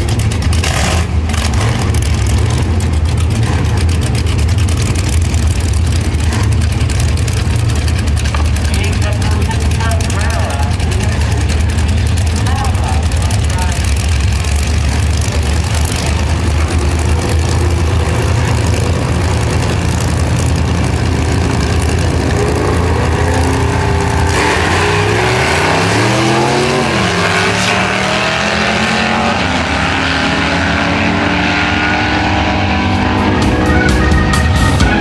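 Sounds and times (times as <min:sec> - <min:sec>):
cars accelerating through gear changes: 0:00.0 - 0:35.0
racing car engines revving: 0:00.0 - 0:35.0.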